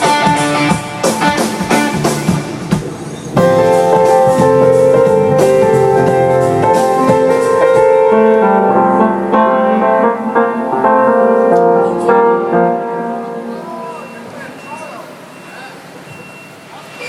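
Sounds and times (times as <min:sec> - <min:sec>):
keyboard playing held chords: 0:00.0 - 0:15.7.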